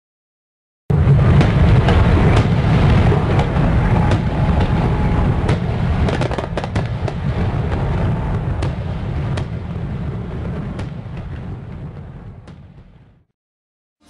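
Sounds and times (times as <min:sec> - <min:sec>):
fireworks crackles and pops: 0:00.9 - 0:13.3
fireworks rumble: 0:00.9 - 0:13.3.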